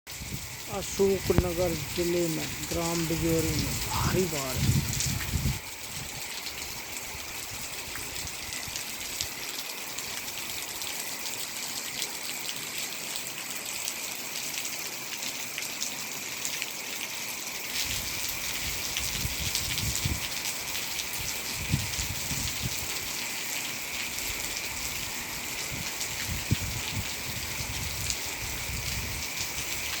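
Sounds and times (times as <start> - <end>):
heavy rain falling: 0.1 - 15.2, 16.3 - 30.0.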